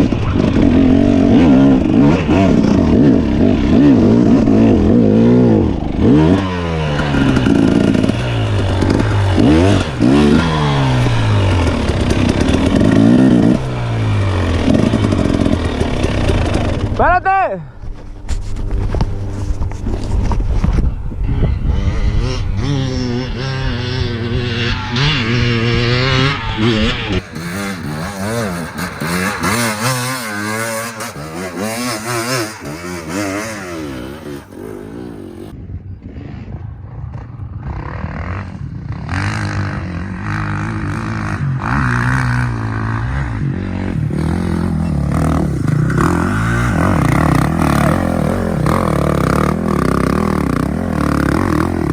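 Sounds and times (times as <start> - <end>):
dirt bike engine revving: 0.0 - 17.3, 18.2 - 51.9.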